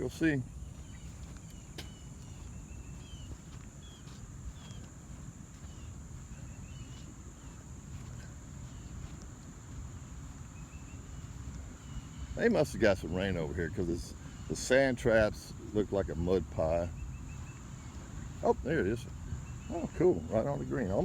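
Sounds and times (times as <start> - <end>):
bird chirping: 0.0 - 21.0
insect drone: 0.0 - 21.0.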